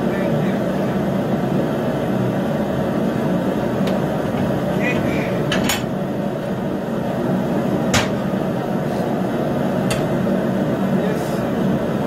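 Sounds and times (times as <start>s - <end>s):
forge burning with rushing noise: 0.0s - 12.0s.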